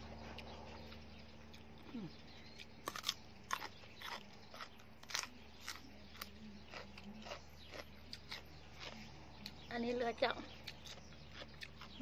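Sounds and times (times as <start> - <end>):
person chewing crisp radish: 0.0 - 9.7, 10.5 - 12.0.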